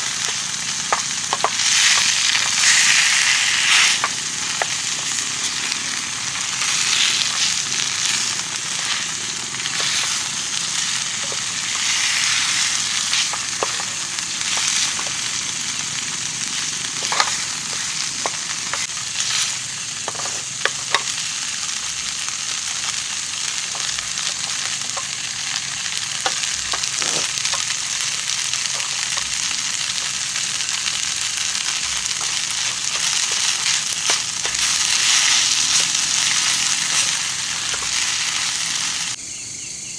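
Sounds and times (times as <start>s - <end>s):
food sizzling in hot oil: 0.0s - 39.2s
oil popping and spattering: 0.0s - 39.2s.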